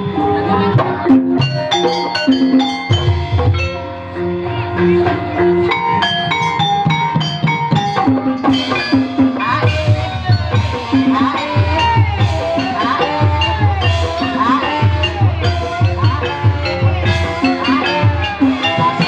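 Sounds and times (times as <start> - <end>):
driving drum pattern: 0.0 - 19.0
gamelan ensemble playing: 0.0 - 19.0
struck metallophone melody: 0.0 - 19.0.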